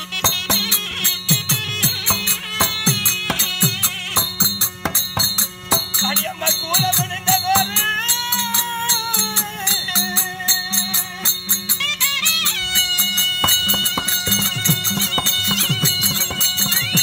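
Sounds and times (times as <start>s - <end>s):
barrel hand drum: 0.0s - 17.0s
small hand cymbals: 0.0s - 17.0s
wavering melody line: 0.0s - 17.0s.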